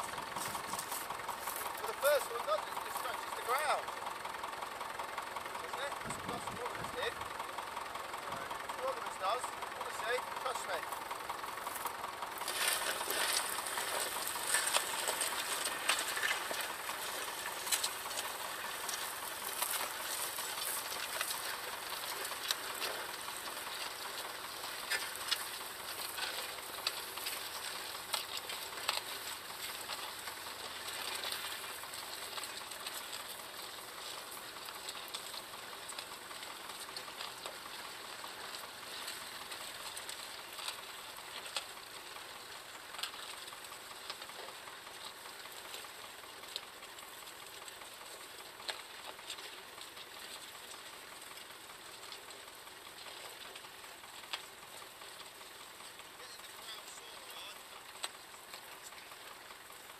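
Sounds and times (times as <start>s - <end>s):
tractor engine clattering: 0.0s - 59.9s.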